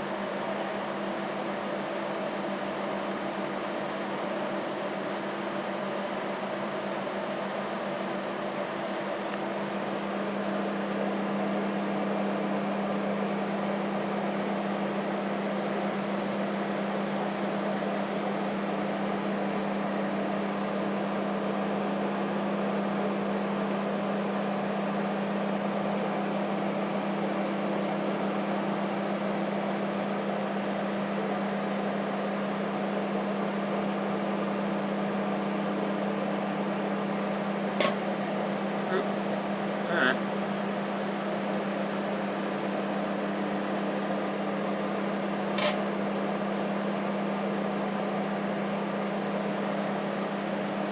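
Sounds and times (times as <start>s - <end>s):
microwave oven humming: 0.0s - 50.9s.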